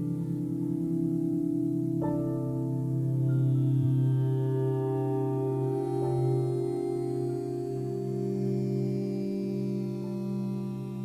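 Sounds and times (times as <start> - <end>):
ambient music with held notes: 0.0 - 11.0.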